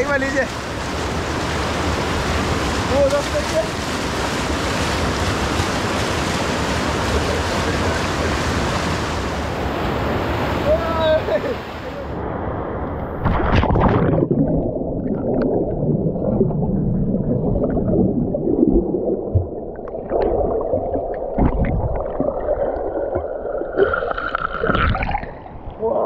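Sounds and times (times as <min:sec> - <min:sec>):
muffled river water gurgling: 0:00.0 - 0:26.0.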